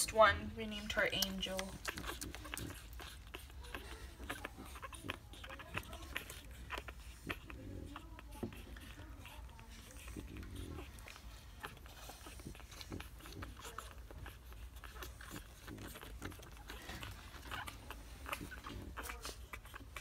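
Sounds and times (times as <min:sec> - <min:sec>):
puppies suckling: 0:00.0 - 0:20.0.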